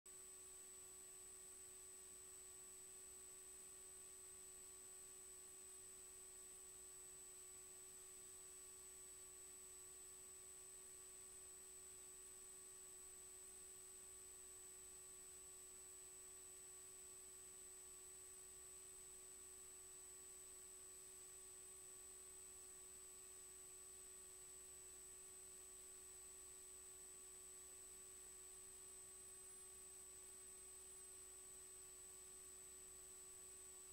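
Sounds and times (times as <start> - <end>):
faint electrical hum and hiss: 0.1 - 33.9.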